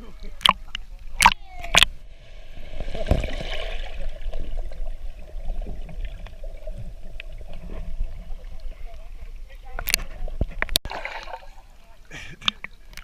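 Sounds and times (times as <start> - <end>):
water lapping and trickling: 0.0 - 13.0
water splash: 0.4 - 8.9, 9.7 - 11.7.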